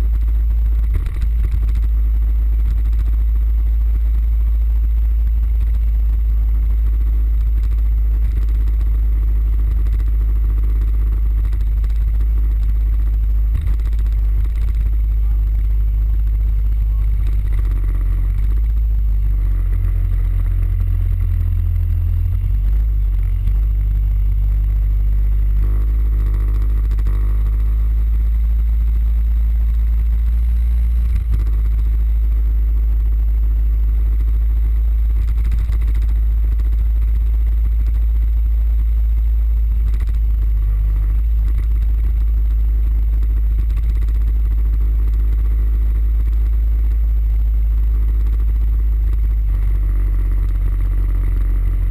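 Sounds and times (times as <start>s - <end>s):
low rumble: 0.0s - 51.9s
scooter engine running: 0.0s - 51.9s.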